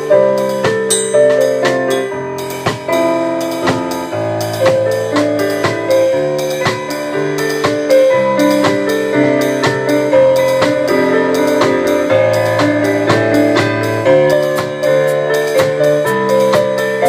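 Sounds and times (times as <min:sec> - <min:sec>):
piano chords: 0:00.0 - 0:17.0
steady drum beat: 0:00.0 - 0:17.0.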